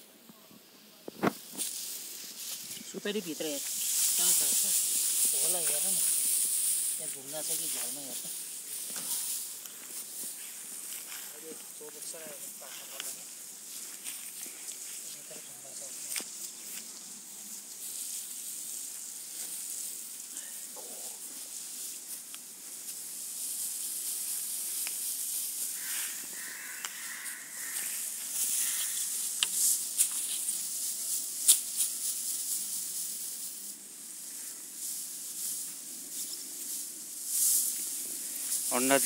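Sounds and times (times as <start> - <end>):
straw and fibre rustling: 1.0 - 39.0.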